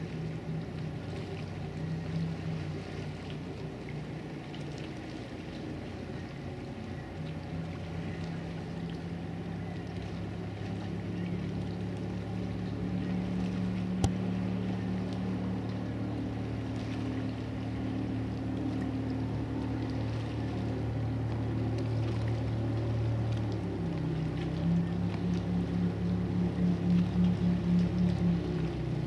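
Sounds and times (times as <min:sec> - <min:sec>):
motorboat engine running: 0:00.0 - 0:29.0.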